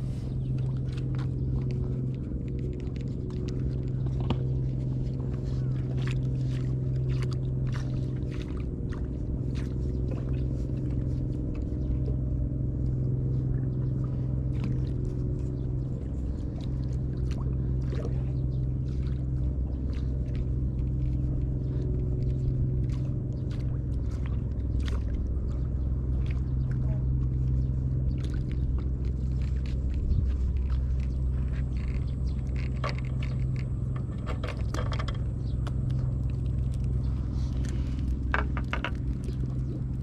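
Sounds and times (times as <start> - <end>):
low engine drone: 0.0 - 40.0.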